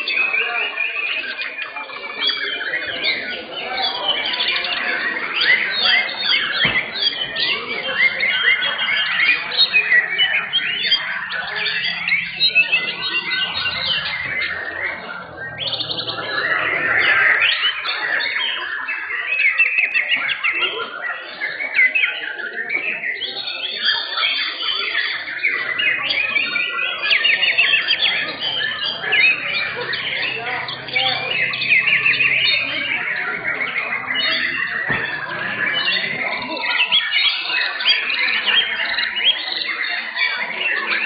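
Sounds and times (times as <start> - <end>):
birds singing in chorus: 0.0 - 41.0.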